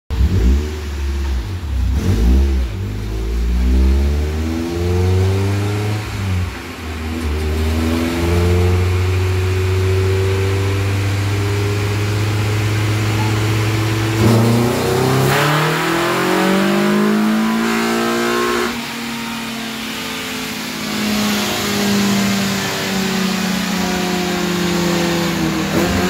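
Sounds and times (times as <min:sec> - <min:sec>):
car engine revving: 0:00.1 - 0:26.0.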